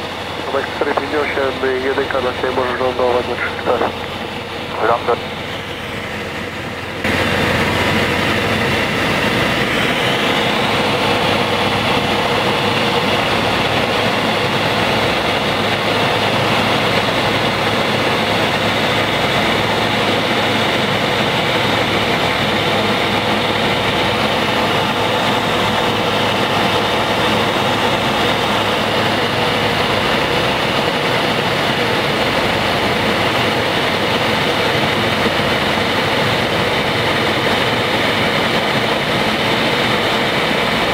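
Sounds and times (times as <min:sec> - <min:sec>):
light aircraft engine in cockpit: 0:00.0 - 0:40.9.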